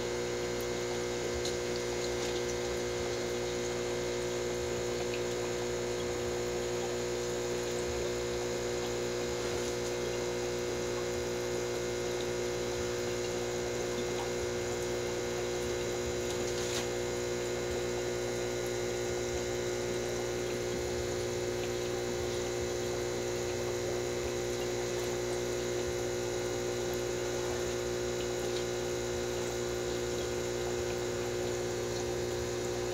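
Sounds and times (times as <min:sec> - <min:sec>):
aquarium pump humming: 0:00.0 - 0:32.9
moving water: 0:00.6 - 0:32.9.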